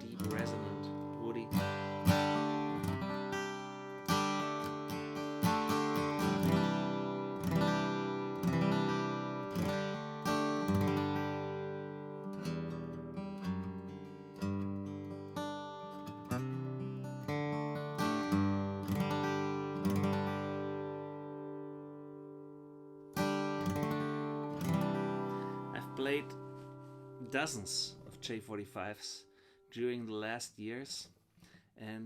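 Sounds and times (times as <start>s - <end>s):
acoustic guitar strummed and picked: 0.0s - 30.5s.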